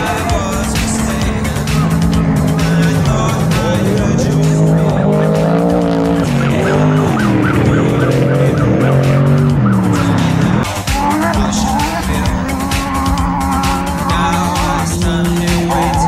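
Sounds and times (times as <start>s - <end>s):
race vehicles passing at full throttle: 0.0s - 16.0s.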